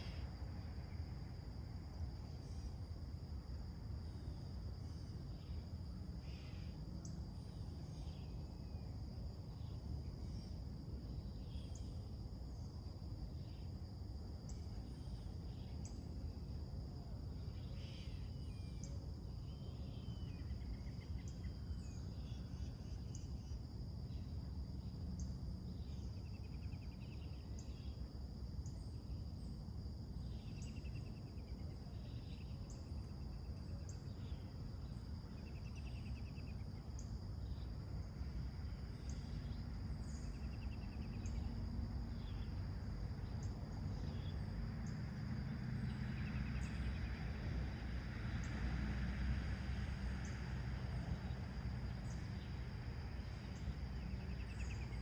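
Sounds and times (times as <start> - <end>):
insect drone: 0.0 - 55.0
low background rumble: 0.0 - 55.0.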